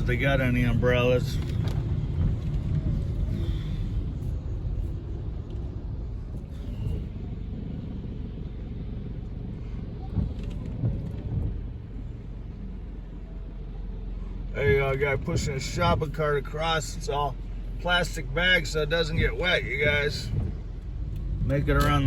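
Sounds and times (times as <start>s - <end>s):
car rumbling inside cabin: 0.0s - 22.0s.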